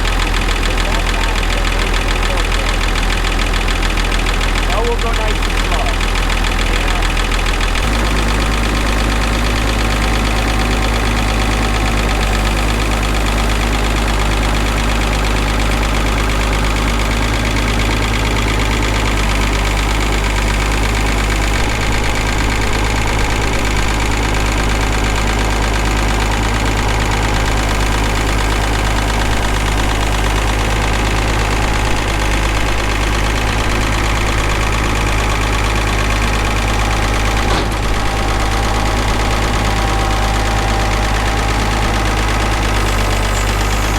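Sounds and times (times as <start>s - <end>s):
engine idling with light knock: 0.0s - 43.9s.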